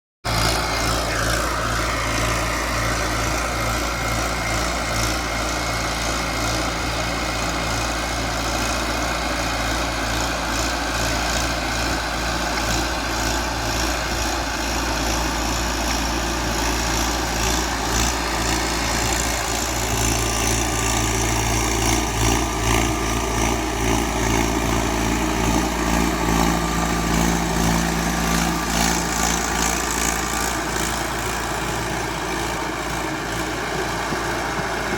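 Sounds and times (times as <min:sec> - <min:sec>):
tractor diesel engine running: 0:00.3 - 0:34.9.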